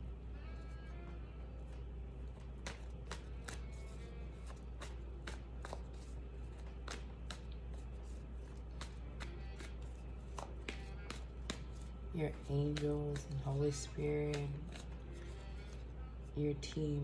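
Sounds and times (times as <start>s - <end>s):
steady low hum: 0.0s - 17.0s
cards being shuffled: 1.6s - 17.0s.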